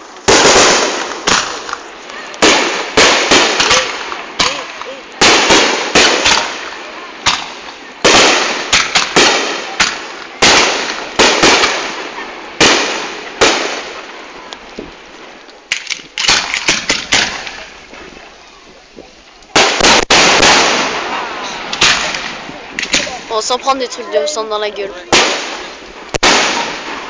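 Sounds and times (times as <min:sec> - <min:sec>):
fireworks bursting and crackling: 0:00.0 - 0:27.0.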